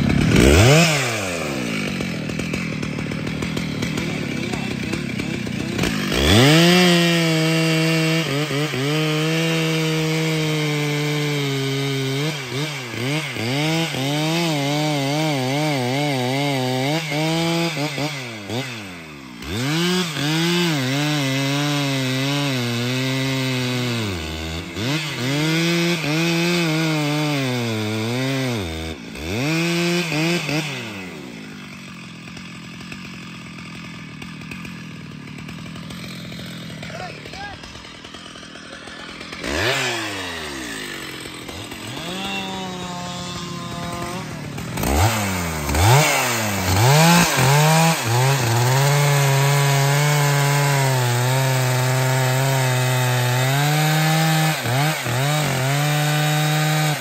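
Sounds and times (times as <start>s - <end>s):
chainsaw cutting through wood: 0.0s - 57.0s.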